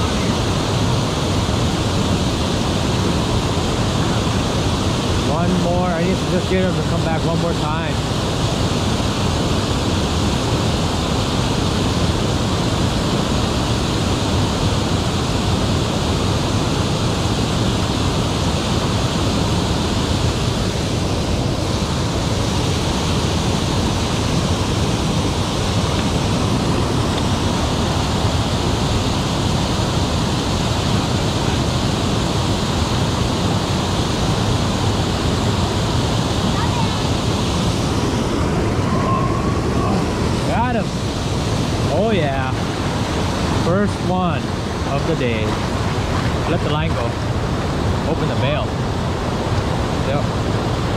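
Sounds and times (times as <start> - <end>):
water rushing over dam: 0.0 - 50.9.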